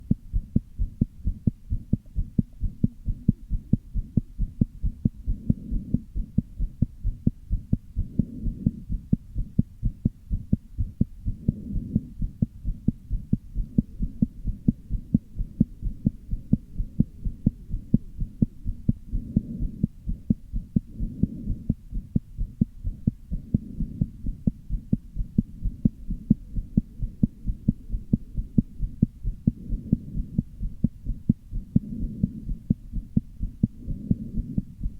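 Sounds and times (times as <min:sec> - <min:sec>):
heartbeat thumps: 0:00.0 - 0:34.9.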